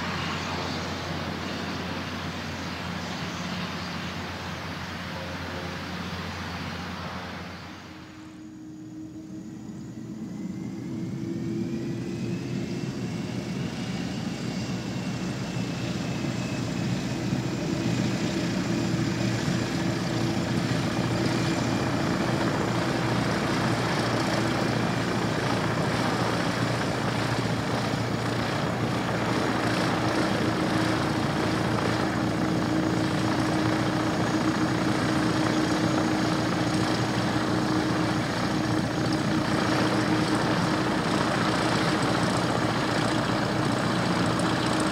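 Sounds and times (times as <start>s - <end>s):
jet engines whining: 0.0s - 44.9s.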